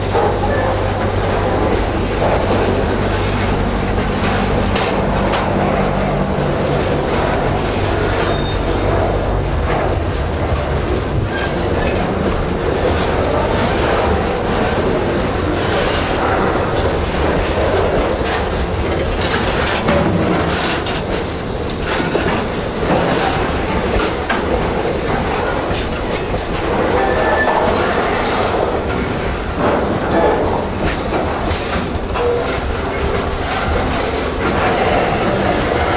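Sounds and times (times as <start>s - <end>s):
wheels clicking over rail joints: 0.0s - 35.9s.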